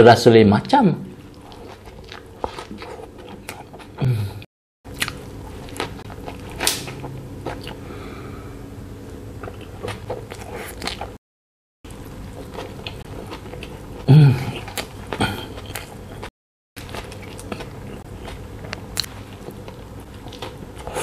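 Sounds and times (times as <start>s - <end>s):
person chewing a burger: 1.2s - 4.0s, 4.9s - 8.0s, 9.4s - 11.2s, 11.9s - 21.0s.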